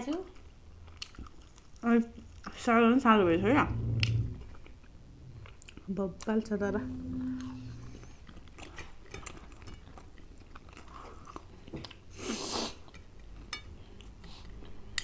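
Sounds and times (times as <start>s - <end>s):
chewing and crunching: 0.0s - 3.0s, 3.8s - 6.6s, 7.4s - 15.0s.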